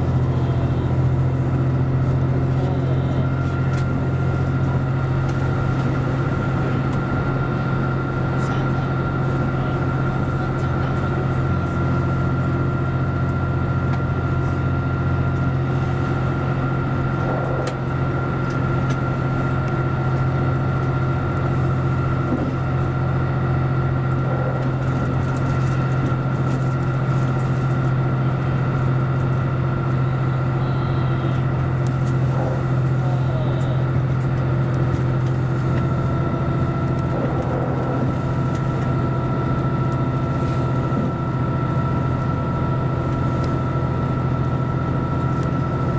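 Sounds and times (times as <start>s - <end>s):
diesel engine drone: 0.0s - 45.9s
high whine: 0.0s - 45.9s.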